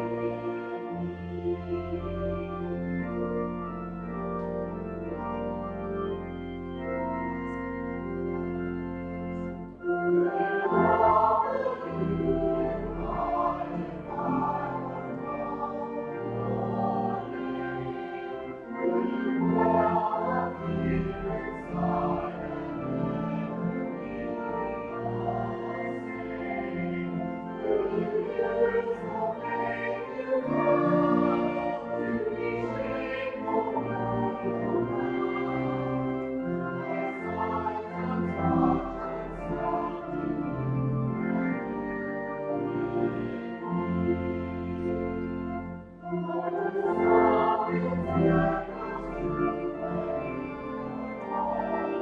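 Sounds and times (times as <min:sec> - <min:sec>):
choir singing a hymn: 0:00.0 - 0:04.1, 0:09.3 - 0:45.3, 0:45.9 - 0:52.0
instrumental accompaniment: 0:00.0 - 0:52.0
organ chord: 0:00.0 - 0:52.0.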